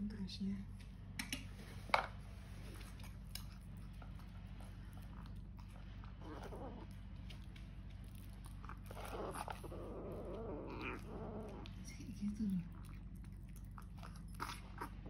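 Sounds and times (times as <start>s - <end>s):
kitten crunching kibble: 1.0s - 15.0s.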